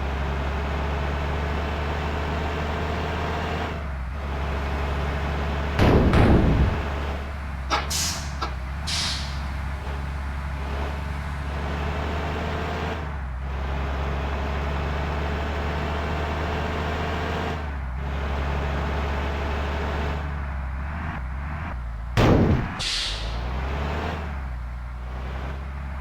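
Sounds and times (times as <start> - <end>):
bus engine humming: 0.0 - 26.0.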